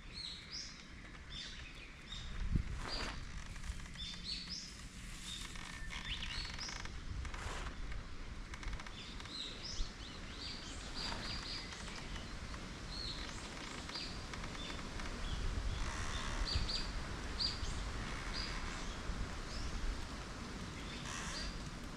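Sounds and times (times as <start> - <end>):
small songbirds chirping: 0.0 - 6.9, 8.7 - 19.9.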